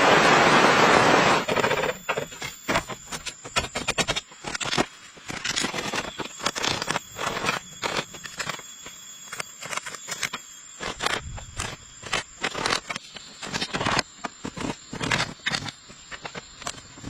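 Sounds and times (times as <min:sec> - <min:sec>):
scraping and crackling material: 0:00.1 - 0:17.0.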